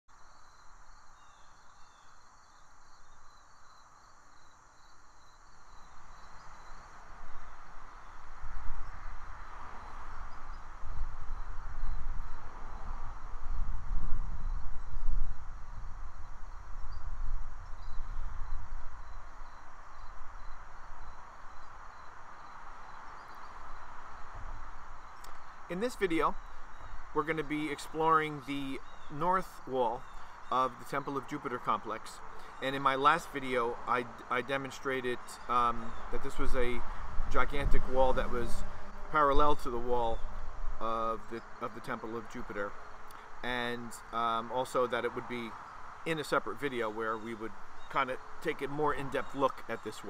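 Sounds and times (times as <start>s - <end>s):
steady hiss: 0.1s - 50.0s
wind rumbling on microphone: 5.2s - 31.4s, 32.1s - 49.9s.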